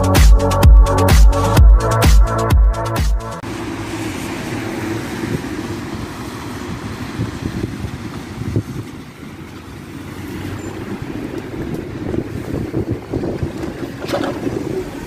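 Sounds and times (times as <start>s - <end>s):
diesel bus engine: 0.0s - 15.0s
street noise: 0.0s - 15.0s.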